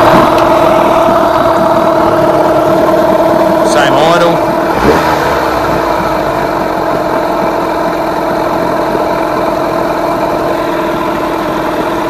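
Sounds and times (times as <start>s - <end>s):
outboard engine idling: 0.0s - 12.0s.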